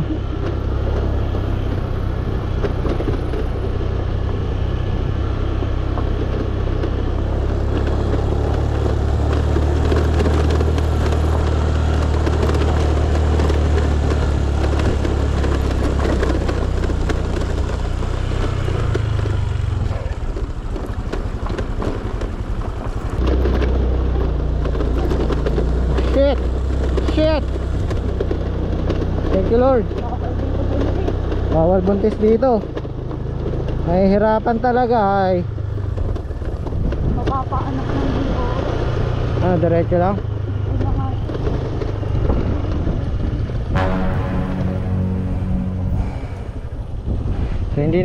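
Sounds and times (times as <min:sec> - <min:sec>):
scooter rattling over stones: 0:00.0 - 0:44.1
scooter engine rumbling: 0:00.0 - 0:48.0.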